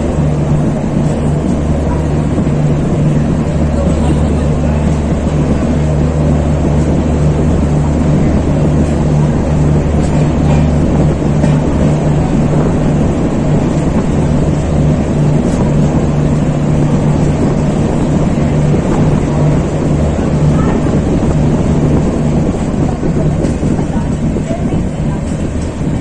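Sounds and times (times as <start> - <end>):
diesel generator droning: 0.0 - 26.0.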